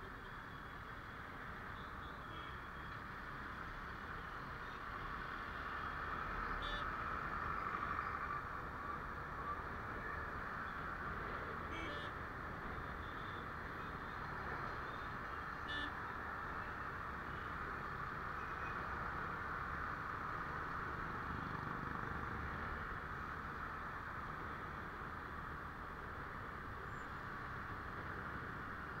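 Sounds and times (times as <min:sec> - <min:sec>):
wind and motorbike road noise: 0:00.0 - 0:29.0.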